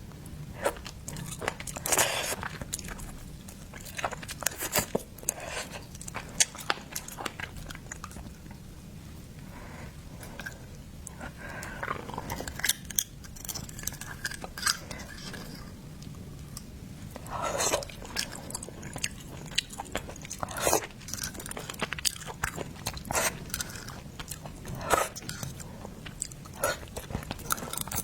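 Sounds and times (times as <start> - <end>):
wet chewing and smacking: 0.6 - 8.6, 10.2 - 28.0.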